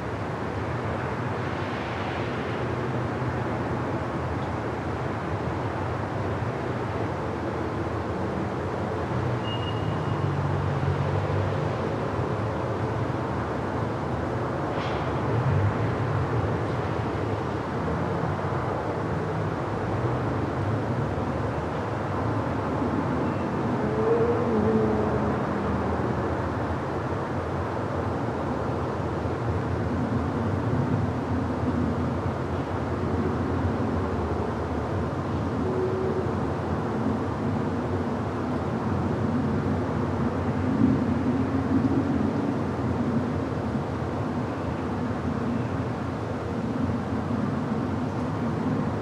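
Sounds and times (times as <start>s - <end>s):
distant traffic: 0.0s - 49.0s.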